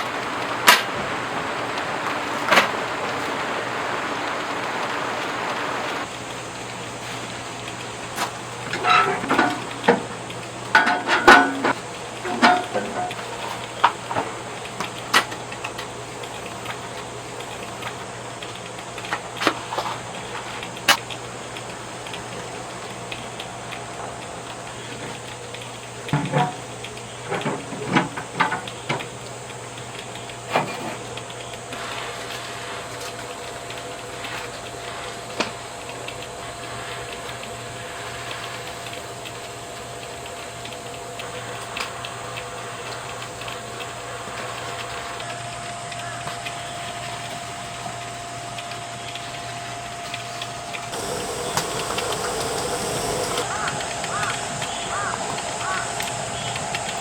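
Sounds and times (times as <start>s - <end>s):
air conditioner humming: 0.0s - 26.0s, 32.6s - 57.0s
constant hiss: 0.0s - 57.0s.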